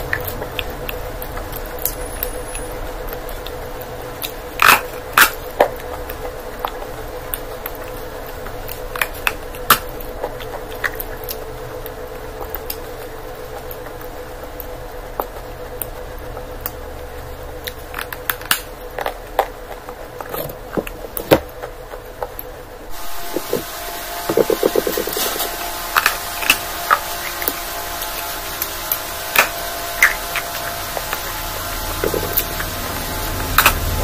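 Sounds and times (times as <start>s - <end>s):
chewing flatbread: 0.0s - 34.0s
crunchy clicks: 0.0s - 34.0s
low hum: 0.0s - 34.0s.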